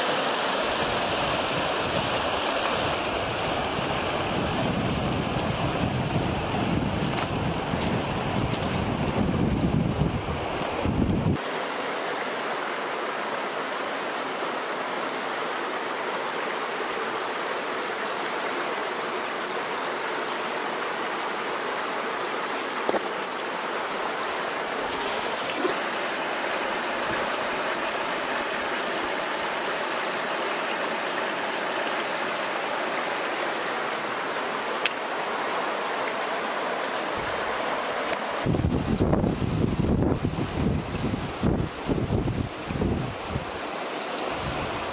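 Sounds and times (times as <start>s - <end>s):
stream flowing over gravel: 0.0s - 44.9s.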